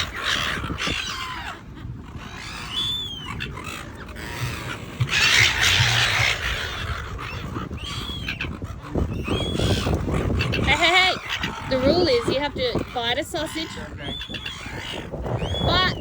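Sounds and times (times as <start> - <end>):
seagulls squawking: 0.0 - 16.0.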